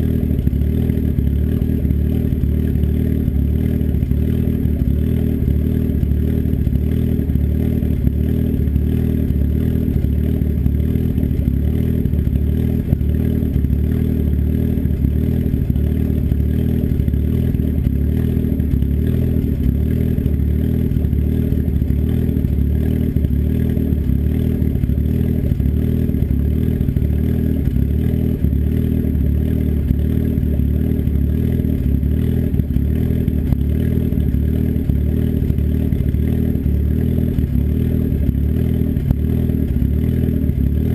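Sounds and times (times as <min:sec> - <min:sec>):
turbocharged engine idling: 0:00.0 - 0:40.9.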